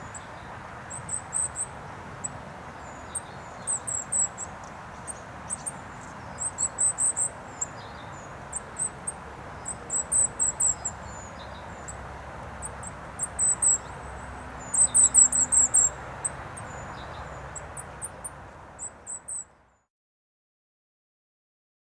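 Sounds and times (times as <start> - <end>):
road traffic hum: 0.0 - 19.7.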